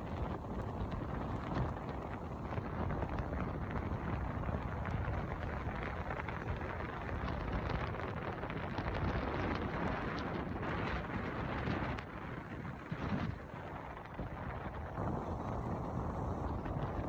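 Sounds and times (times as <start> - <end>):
fine crackles: 0.0 - 17.0
steady rushing noise: 0.0 - 17.0
wind buffeting microphone: 0.0 - 17.0.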